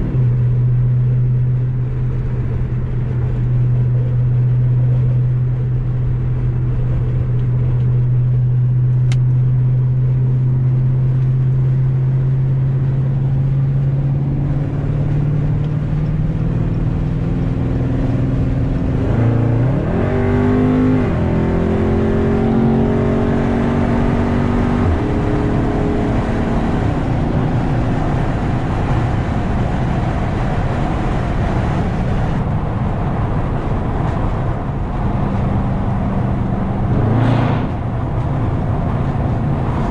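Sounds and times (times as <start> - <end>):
car exhaust droning: 0.0 - 39.9.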